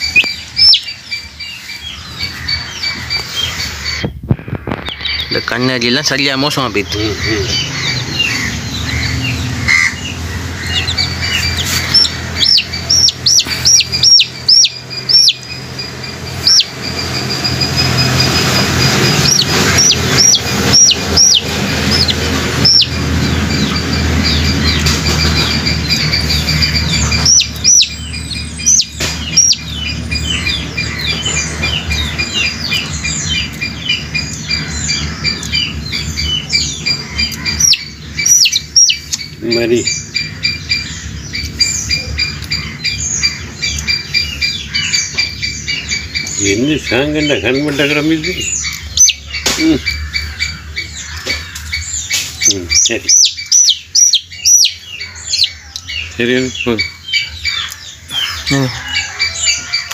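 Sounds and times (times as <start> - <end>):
chick peeping loudly: 0.0 - 59.9.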